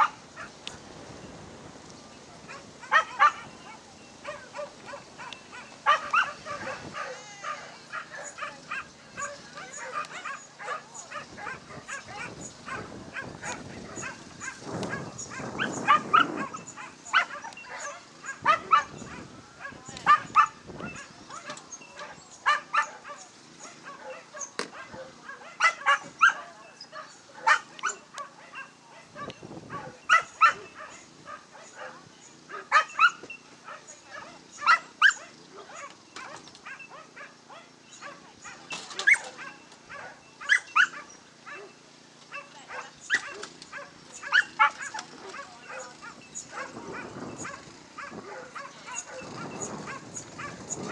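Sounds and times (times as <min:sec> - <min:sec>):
dog yipping and barking: 0:00.0 - 0:00.5, 0:02.4 - 0:50.9.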